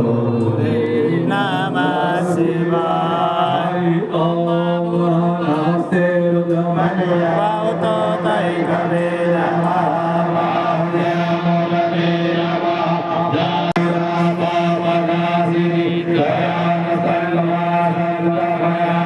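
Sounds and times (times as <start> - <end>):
person chanting mantras: 0.0 - 19.0.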